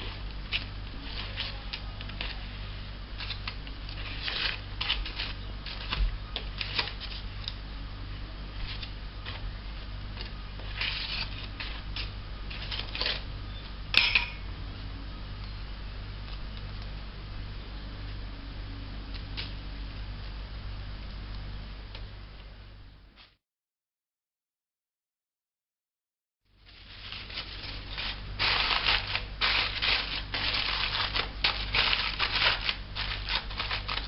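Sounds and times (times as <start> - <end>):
low electrical hum: 0.0 - 23.4, 26.5 - 34.0.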